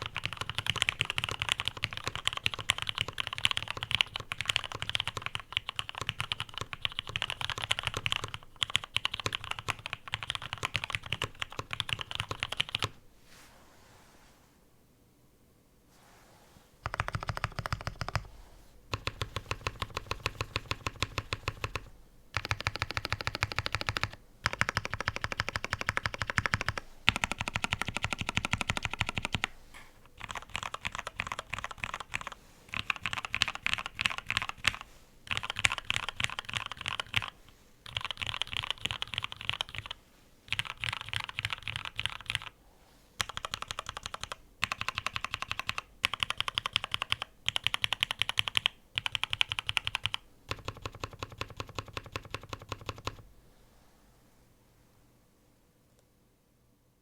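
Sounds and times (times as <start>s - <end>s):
fast typing on mechanical keyboard: 0.0s - 13.0s, 16.8s - 18.3s, 18.9s - 29.5s, 30.2s - 42.6s, 43.2s - 53.2s.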